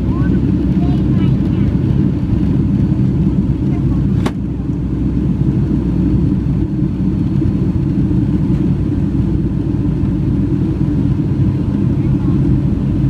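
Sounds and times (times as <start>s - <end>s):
plane engines rumbling in cabin: 0.0s - 13.0s.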